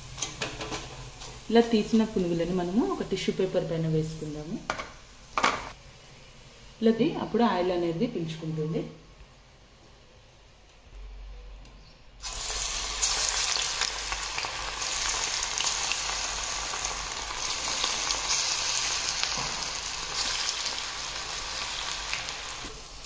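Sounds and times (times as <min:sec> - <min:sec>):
hot oil sizzling: 0:00.0 - 0:08.8, 0:12.2 - 0:23.0.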